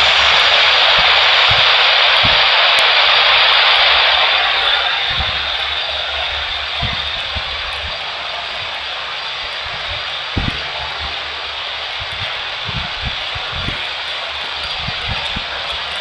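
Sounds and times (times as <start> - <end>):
low thumps: 0.0 - 13.8
jet engines rushing: 0.0 - 16.0.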